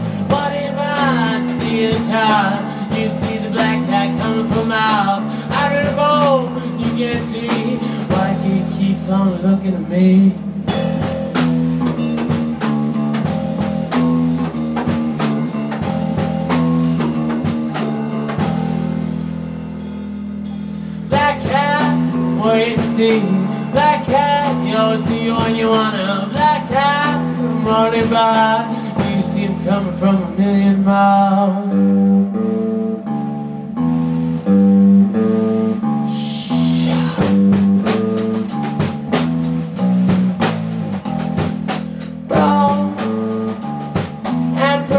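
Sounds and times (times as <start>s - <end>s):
drum kit: 0.0s - 30.9s, 31.7s - 44.9s
bass guitar riff: 0.0s - 44.9s
electric guitar lead with bending notes: 0.0s - 44.9s.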